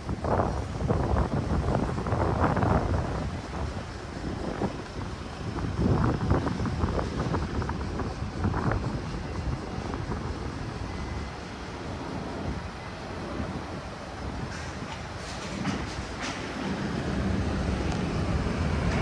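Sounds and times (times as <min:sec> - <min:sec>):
traffic rumble: 0:00.0 - 0:19.0
wind buffeting microphone: 0:00.0 - 0:19.0.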